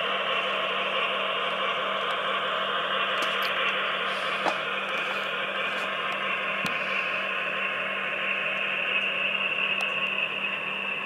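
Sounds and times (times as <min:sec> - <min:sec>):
model locomotive engine noise: 0:00.0 - 0:11.0.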